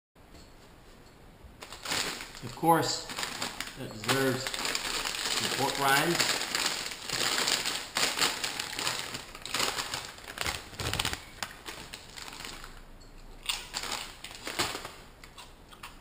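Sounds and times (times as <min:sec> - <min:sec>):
plastic snack bag crinkling: 0:01.6 - 0:12.8, 0:13.4 - 0:16.0
pork rind crunching: 0:01.7 - 0:12.8, 0:13.4 - 0:16.0.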